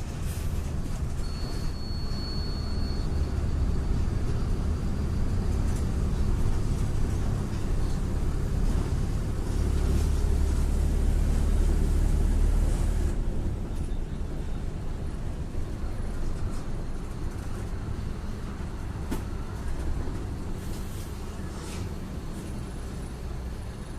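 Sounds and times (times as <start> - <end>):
bus diesel engine running: 0.0 - 23.9.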